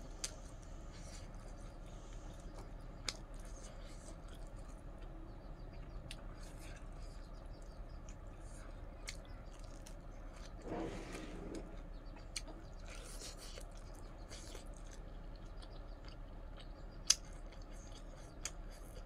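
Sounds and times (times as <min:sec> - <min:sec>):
chewing and crunching food: 0:00.0 - 0:19.0.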